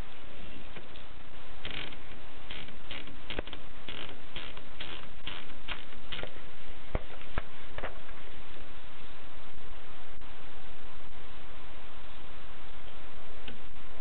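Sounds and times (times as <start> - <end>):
steady hiss and low hum: 0.0 - 14.0.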